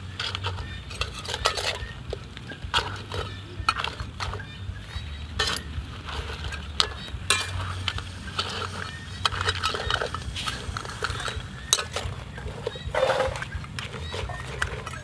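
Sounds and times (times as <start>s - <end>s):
metal ladle scraping a wok: 0.0s - 15.0s.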